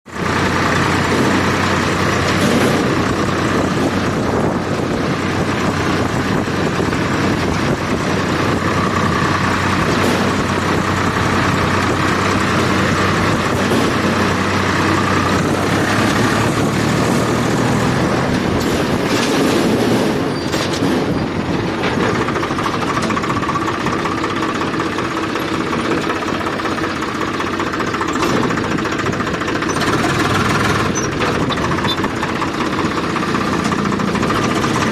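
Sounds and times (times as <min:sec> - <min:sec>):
tractor diesel engine rattling: 0:00.0 - 0:34.9.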